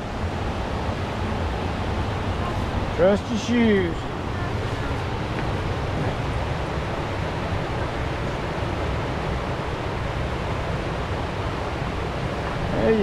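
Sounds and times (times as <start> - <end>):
whitewater river roaring: 0.0 - 13.0.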